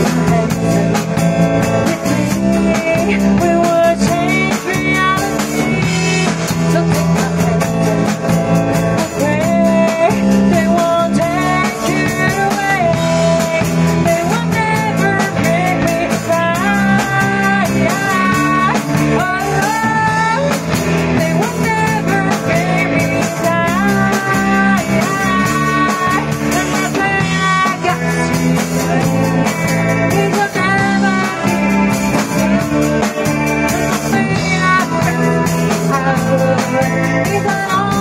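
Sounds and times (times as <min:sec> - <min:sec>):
acoustic and electric guitars: 0:00.0 - 0:38.0
drum kit: 0:00.0 - 0:38.0
woman singing: 0:00.0 - 0:38.0.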